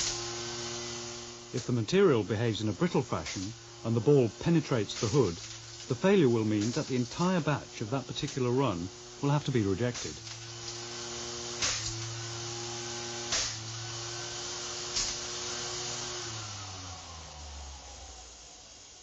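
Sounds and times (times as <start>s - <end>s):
electric lawn mower humming: 0.0s - 19.0s
motor winding down: 0.0s - 19.0s.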